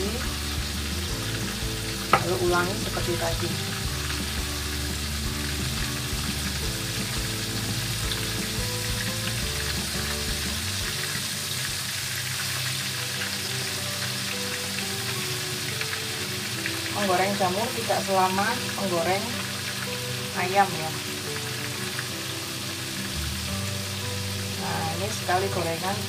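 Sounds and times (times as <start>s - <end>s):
mushrooms deep-frying in oil: 0.0s - 26.0s.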